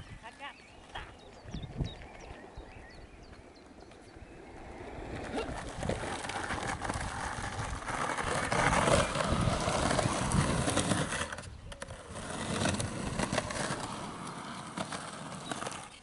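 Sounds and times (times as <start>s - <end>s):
skateboard wheels rolling over dirt: 0.8s - 16.0s.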